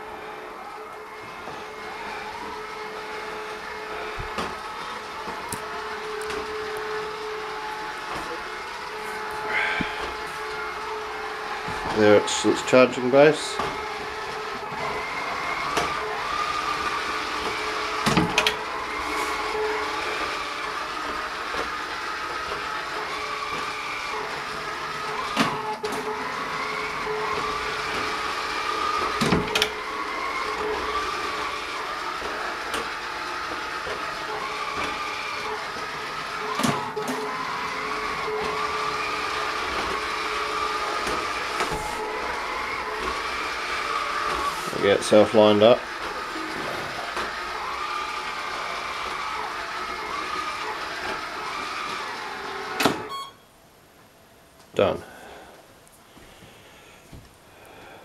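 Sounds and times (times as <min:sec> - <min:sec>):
robot vacuum motor hum: 0:00.0 - 0:52.9.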